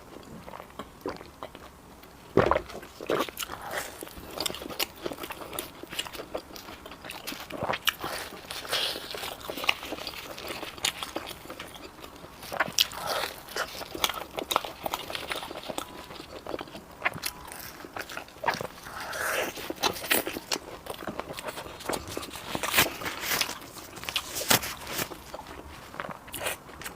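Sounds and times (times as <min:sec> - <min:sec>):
crunchy bites and chewing: 0:00.2 - 0:26.9.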